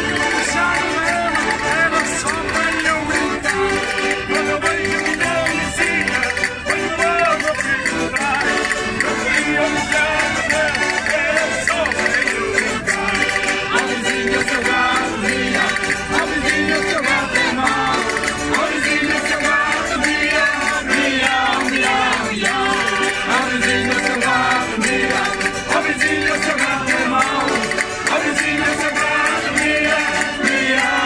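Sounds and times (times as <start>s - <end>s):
folk group singing with instruments: 0.0s - 31.0s.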